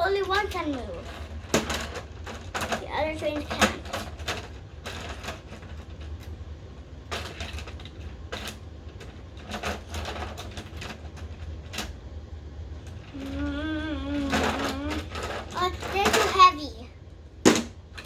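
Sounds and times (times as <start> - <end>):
toy trains clattering on plastic track: 0.0 - 12.0, 12.8 - 16.8
steady low hum: 0.0 - 18.0.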